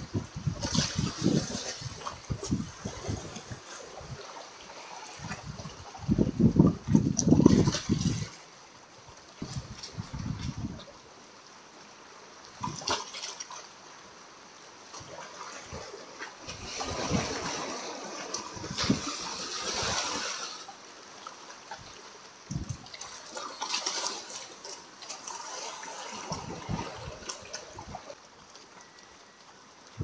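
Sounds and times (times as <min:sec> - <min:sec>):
sea waves splashing on concrete: 0:00.1 - 0:08.5, 0:12.5 - 0:13.8, 0:14.9 - 0:30.0.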